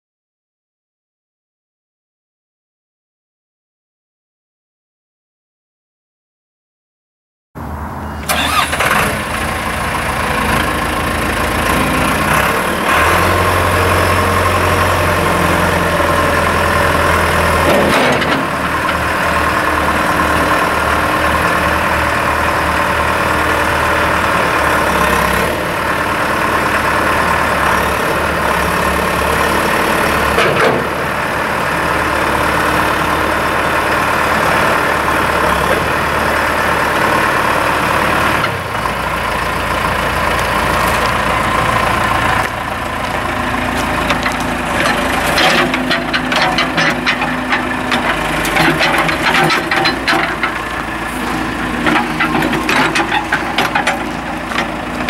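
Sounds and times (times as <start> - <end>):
diesel engine rumbling: 7.6 - 55.0.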